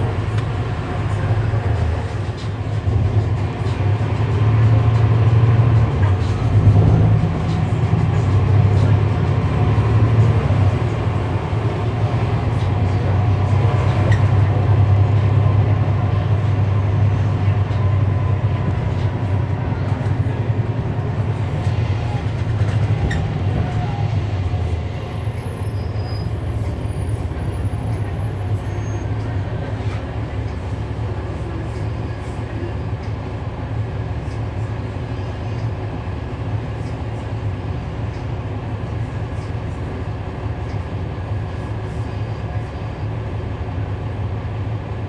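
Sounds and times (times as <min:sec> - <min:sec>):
bus diesel engine droning: 0:00.0 - 0:45.0.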